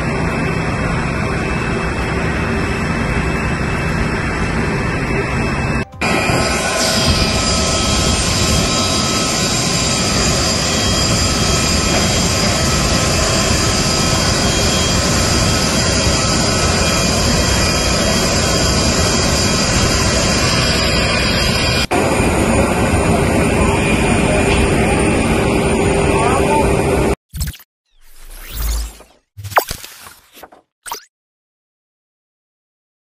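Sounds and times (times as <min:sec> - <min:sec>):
high steady turbine whine: 0:00.0 - 0:27.2
jet turbine roar: 0:00.0 - 0:27.2.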